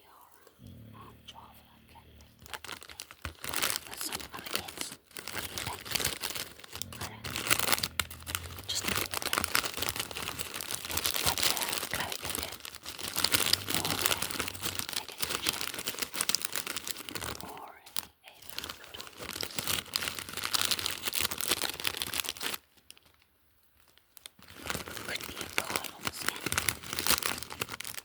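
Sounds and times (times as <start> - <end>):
packaging crinkling and tearing: 2.2 - 28.0.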